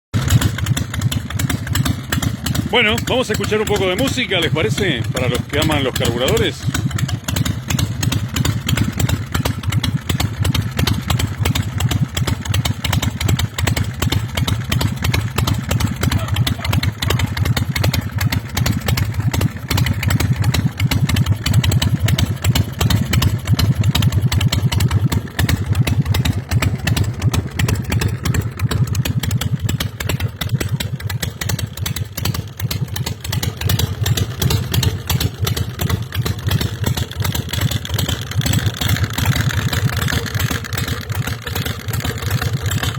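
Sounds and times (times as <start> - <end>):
motorcycle engine idling: 0.2 - 42.9.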